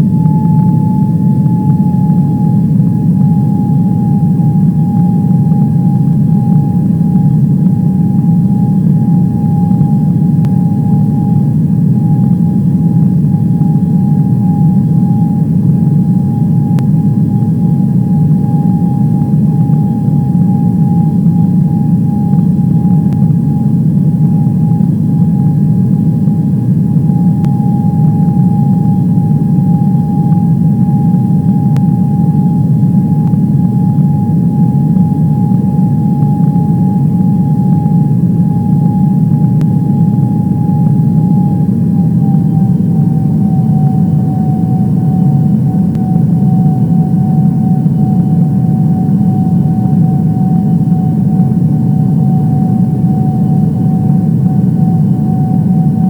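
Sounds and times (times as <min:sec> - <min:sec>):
jet engines and airflow rumble: 0:00.0 - 0:56.0
steady whine: 0:00.0 - 0:56.0.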